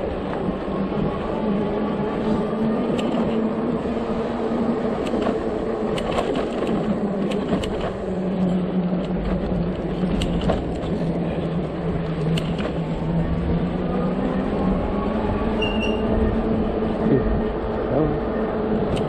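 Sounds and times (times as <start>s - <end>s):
vehicle running hum: 0.0s - 19.0s.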